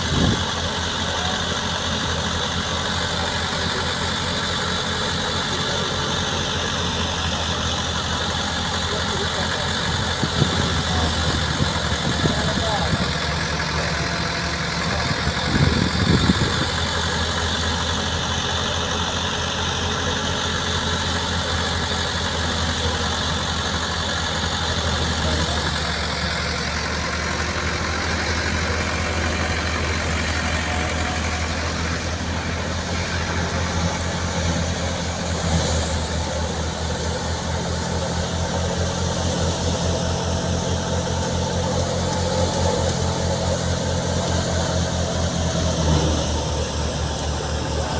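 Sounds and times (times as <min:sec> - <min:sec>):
tractor engine running: 0:00.0 - 0:47.9
thresher mechanical noise: 0:05.0 - 0:47.9.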